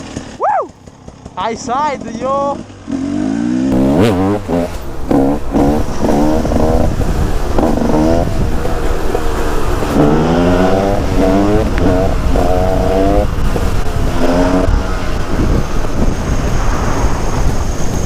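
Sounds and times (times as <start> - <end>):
motorcycle engine revving hard: 0.0 - 18.0.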